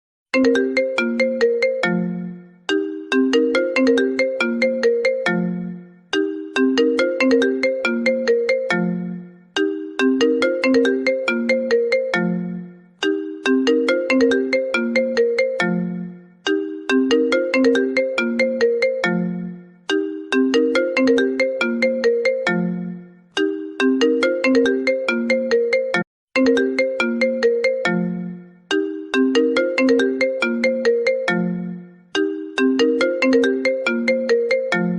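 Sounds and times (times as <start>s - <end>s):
phone ringtone melody: 0.4s - 34.9s.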